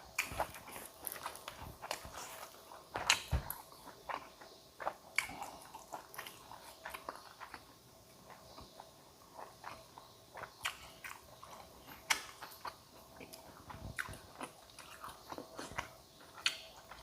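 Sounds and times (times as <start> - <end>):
person chewing and biting food: 0.1 - 17.0.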